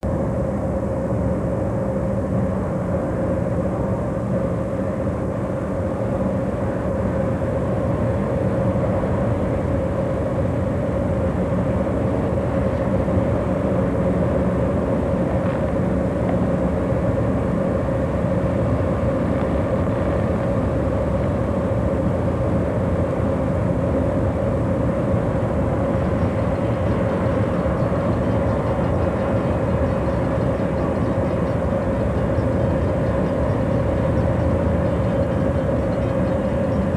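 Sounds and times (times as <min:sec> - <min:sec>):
mid-pitched hum: 0:00.0 - 0:36.9
diesel train engines droning: 0:00.1 - 0:36.9.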